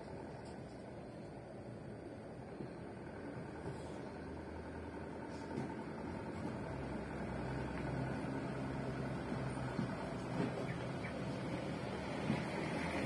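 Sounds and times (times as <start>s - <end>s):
truck diesel engines humming: 0.0s - 13.0s.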